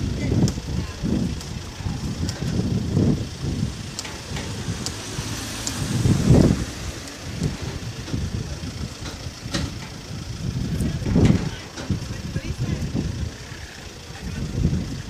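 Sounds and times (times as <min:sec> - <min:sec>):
van engine rumbling: 0:00.0 - 0:15.0.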